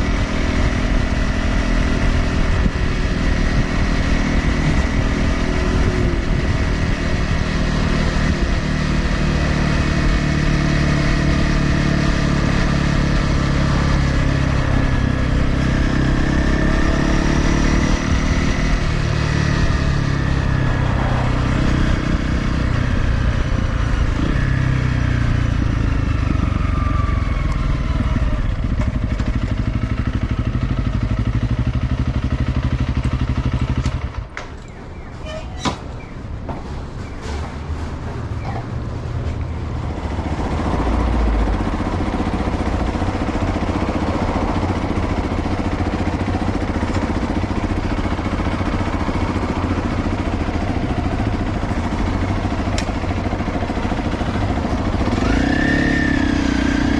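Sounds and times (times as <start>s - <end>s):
motorcycle engine revving: 0.0s - 35.4s, 36.0s - 56.9s.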